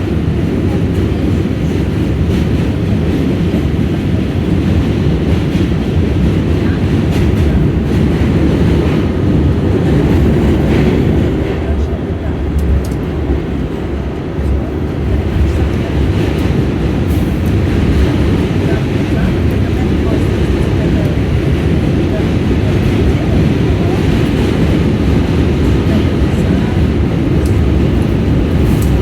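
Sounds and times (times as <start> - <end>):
subway train rumbling on rails: 0.0 - 29.0.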